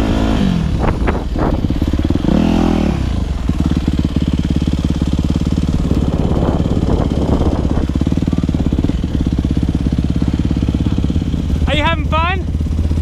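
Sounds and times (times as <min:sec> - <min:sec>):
dirt bike engine at low revs: 0:00.0 - 0:13.0.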